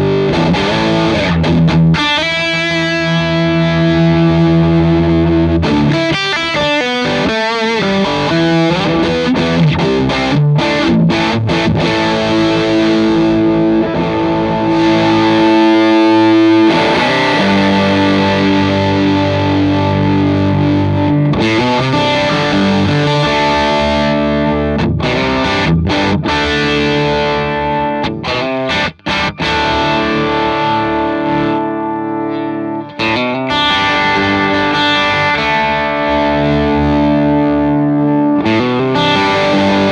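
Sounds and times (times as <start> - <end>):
overdriven electric guitar chords: 0.0 - 39.9.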